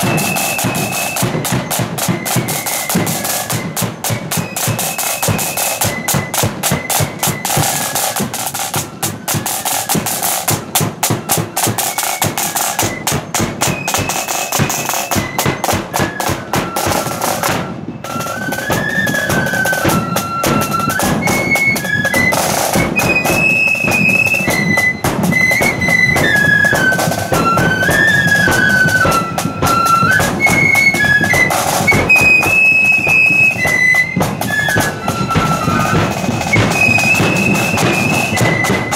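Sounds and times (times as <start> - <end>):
flutes playing quick melody: 0.0 - 38.9
marching drums: 0.0 - 38.9.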